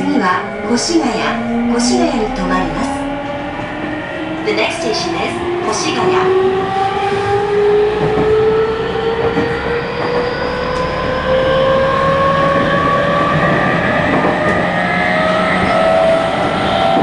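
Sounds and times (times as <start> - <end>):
train inverter and motors whining: 0.0 - 17.0.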